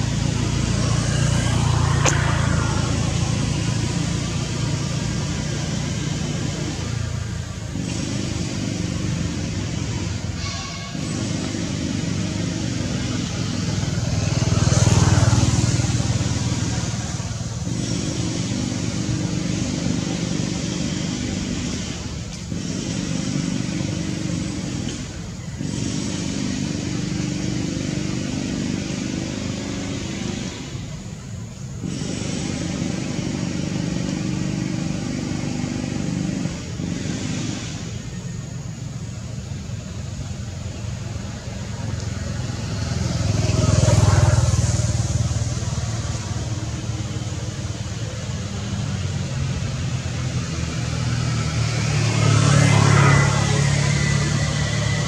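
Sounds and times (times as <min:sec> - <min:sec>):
road traffic rumble: 0:00.0 - 0:55.0
vehicle passing: 0:00.0 - 0:55.0.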